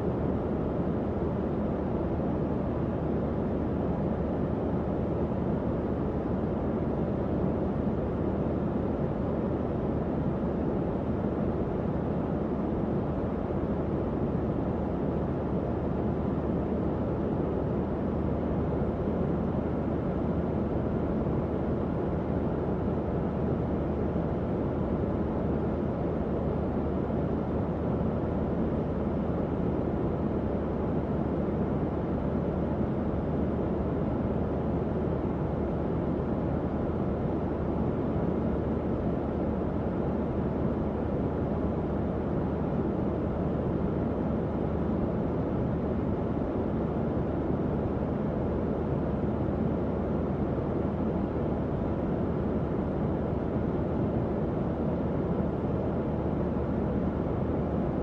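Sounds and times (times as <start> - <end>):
faint fan hum: 0.0 - 58.0.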